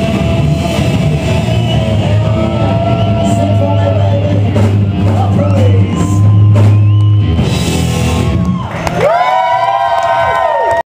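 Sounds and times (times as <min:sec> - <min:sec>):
bass: 0:00.0 - 0:10.8
drums: 0:00.0 - 0:10.8.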